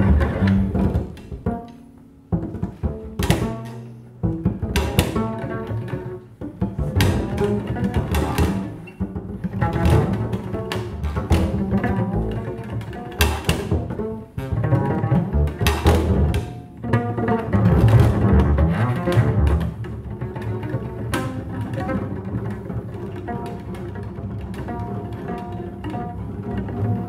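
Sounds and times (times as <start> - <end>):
double basses improvising: 0.0 - 27.0.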